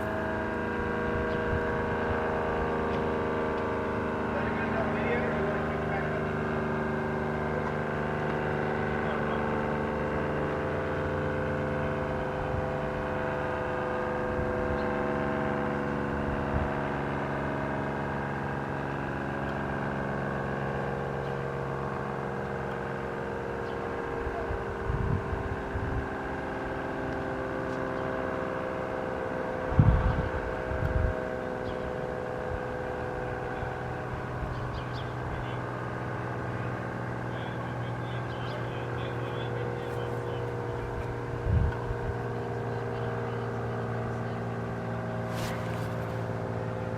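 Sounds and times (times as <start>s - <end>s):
steady engine hum: 0.0s - 46.9s.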